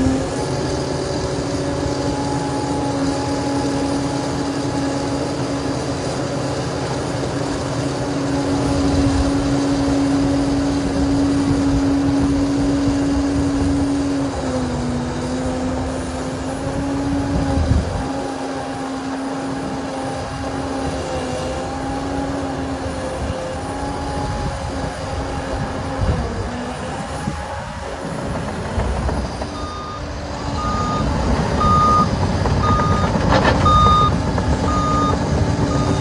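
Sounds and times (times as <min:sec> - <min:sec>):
heavy machinery engine whine: 0:00.0 - 0:36.0.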